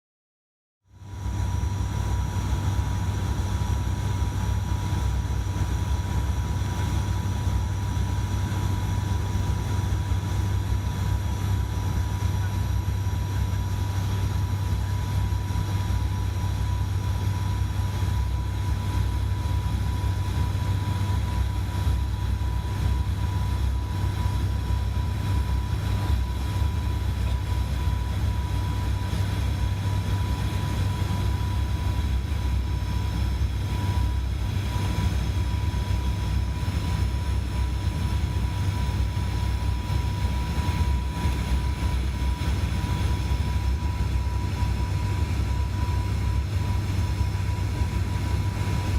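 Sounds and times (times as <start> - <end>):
turboprop cabin drone: 0.8 - 48.9
thin steady whine: 0.9 - 48.9.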